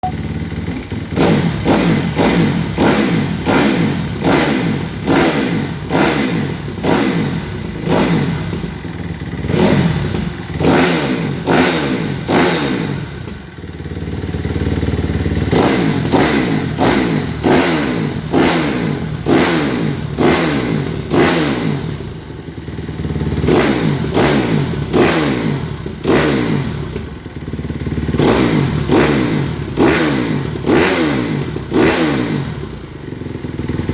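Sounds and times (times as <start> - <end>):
motorcycle engine throttle blips: 0.0 - 33.9.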